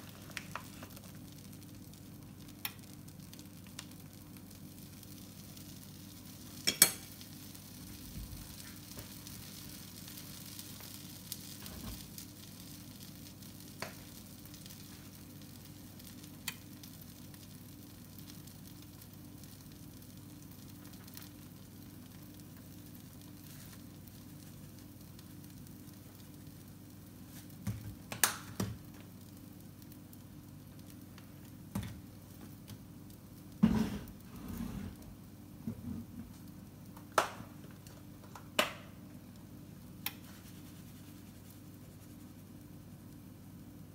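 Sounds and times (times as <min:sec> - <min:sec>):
meat sizzling in a frying pan: 0:00.0 - 0:43.9.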